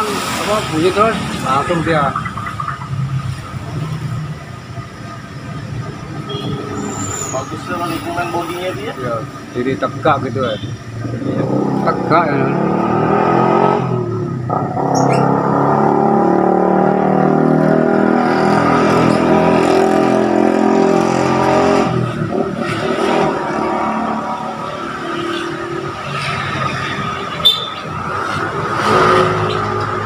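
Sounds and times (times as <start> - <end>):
vehicle engine droning: 0.0 - 30.0.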